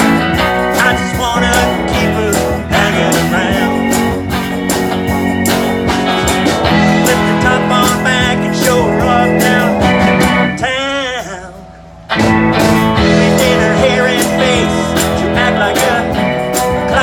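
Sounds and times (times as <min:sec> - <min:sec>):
lead guitar: 0:00.0 - 0:17.0
live blues band playing: 0:00.0 - 0:17.0.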